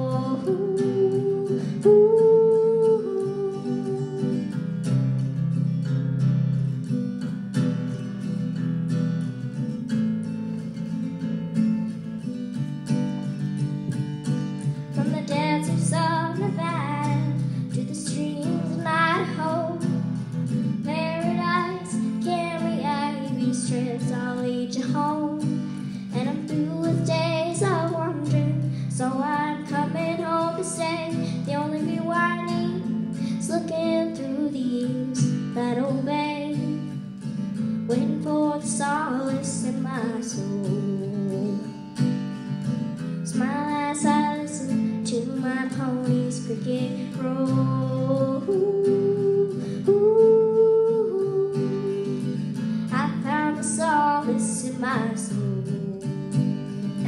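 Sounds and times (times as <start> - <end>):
acoustic guitar: 0.0 - 57.0
woman singing country song: 0.0 - 57.0.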